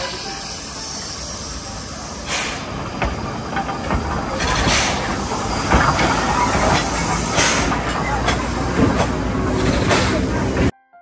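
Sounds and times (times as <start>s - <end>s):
train hissing: 0.0s - 10.7s
train wheels clattering: 0.0s - 10.7s.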